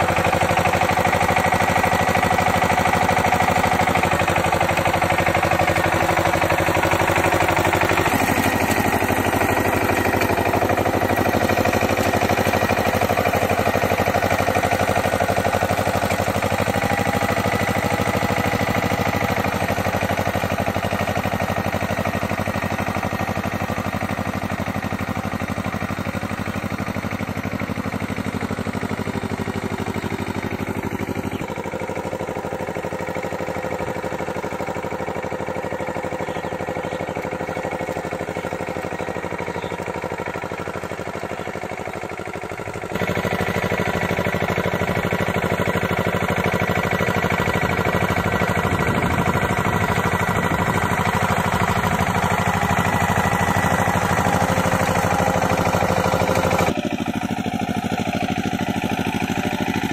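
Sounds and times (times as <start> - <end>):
diesel tiller engine running: 0.0 - 59.9.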